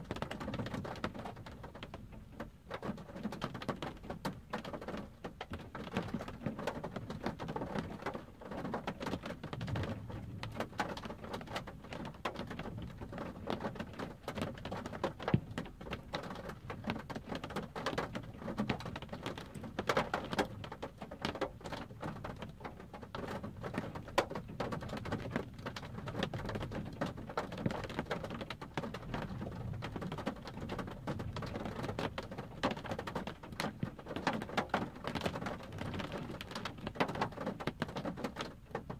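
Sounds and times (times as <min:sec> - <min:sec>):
rain pattering on car roof: 0:00.0 - 0:38.9.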